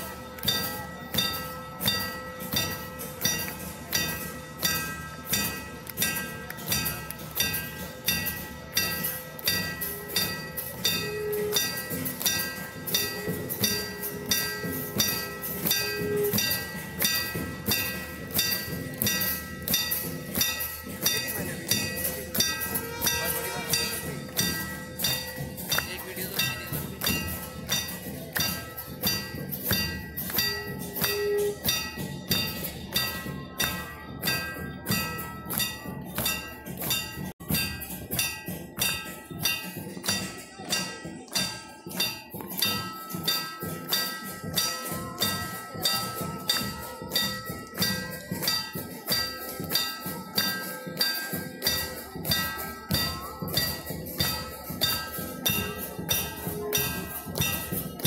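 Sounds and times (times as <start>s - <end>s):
bells and percussion clanging: 0.0s - 58.0s.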